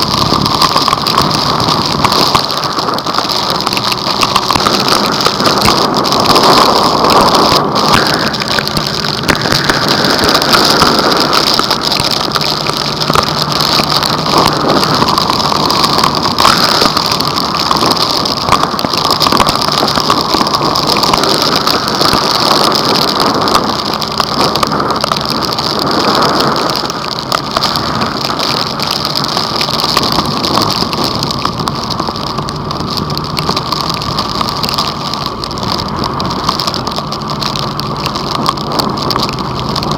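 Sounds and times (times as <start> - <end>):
heavy rain on vehicle: 0.0 - 39.9.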